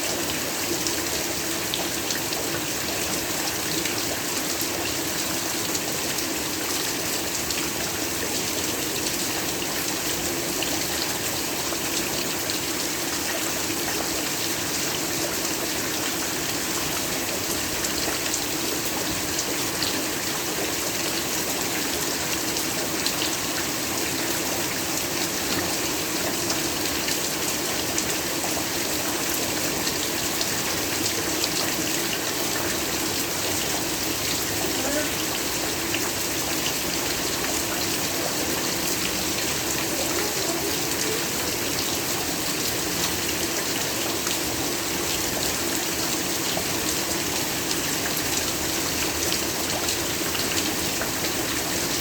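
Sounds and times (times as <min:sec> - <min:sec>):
heavy rain falling: 0:00.1 - 0:52.0.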